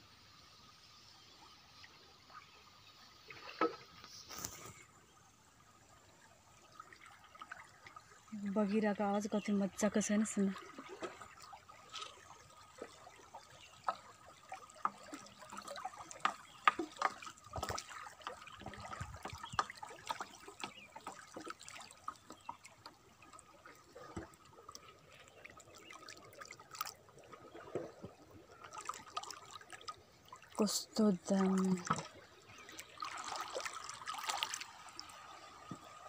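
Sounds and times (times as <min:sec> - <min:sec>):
river water gurgling against canoe: 0:01.9 - 0:05.2, 0:06.0 - 0:36.0.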